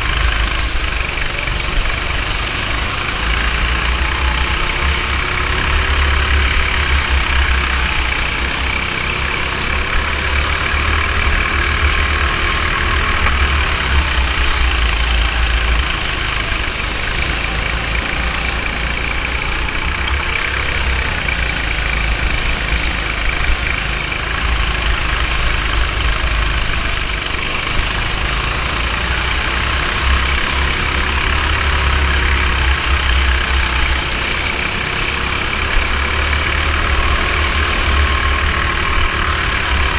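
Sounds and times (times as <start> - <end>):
go-kart motor running: 0.0 - 39.9
heavy low rumble: 0.0 - 39.9.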